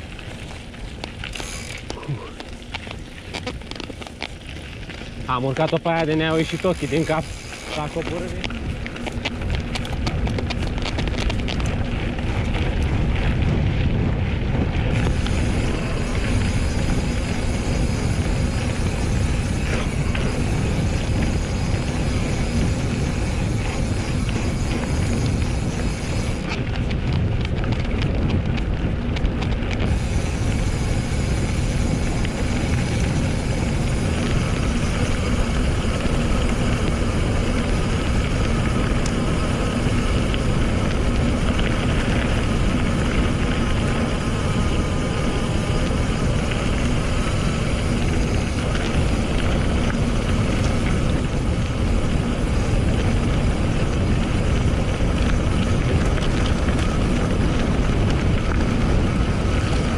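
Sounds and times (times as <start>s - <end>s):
bike knocks and rattles: 0.0s - 59.9s
tyres rolling on rough trail: 0.0s - 59.9s
wind on microphone: 0.0s - 59.9s.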